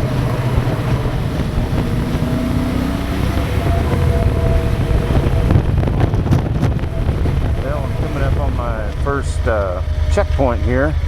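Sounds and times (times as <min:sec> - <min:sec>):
motorcycle engine: 0:00.0 - 0:11.0
wind rumbling on microphone: 0:00.0 - 0:11.0.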